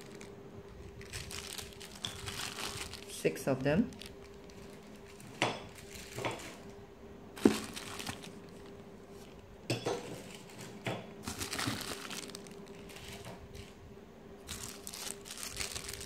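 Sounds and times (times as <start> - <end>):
plastic bags crinkling: 0.0 - 6.8, 7.4 - 9.4, 10.2 - 13.7, 14.5 - 16.0.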